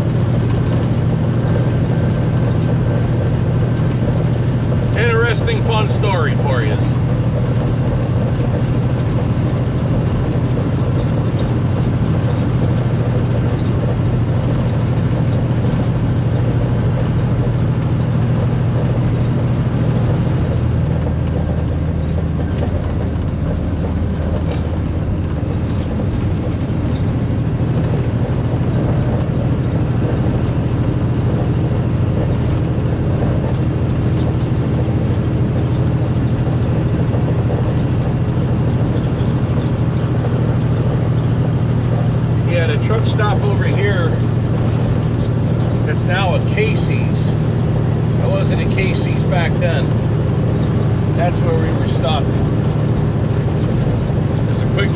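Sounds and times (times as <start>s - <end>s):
road noise: 0.0s - 54.9s
truck diesel engine drone: 0.0s - 54.9s.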